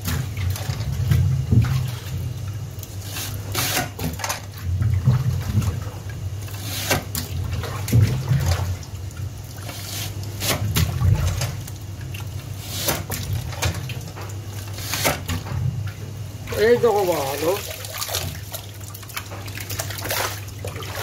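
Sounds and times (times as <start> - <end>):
water rushing in sink: 0.0 - 21.0.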